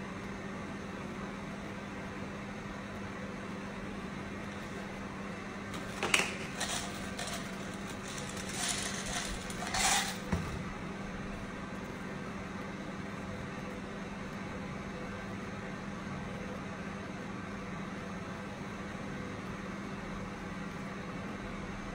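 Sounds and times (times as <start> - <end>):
room noise hum and hiss: 0.0 - 21.9.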